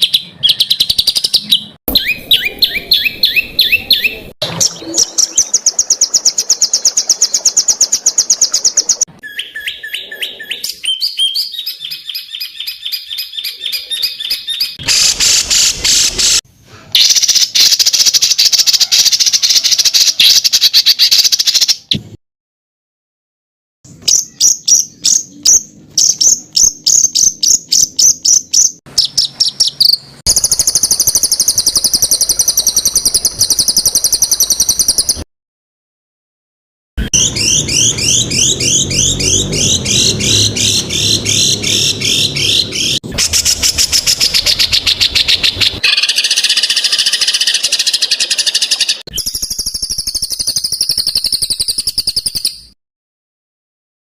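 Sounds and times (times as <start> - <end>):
songbird harsh calls and trills: 0.0 - 16.4, 23.9 - 35.2, 37.0 - 52.8.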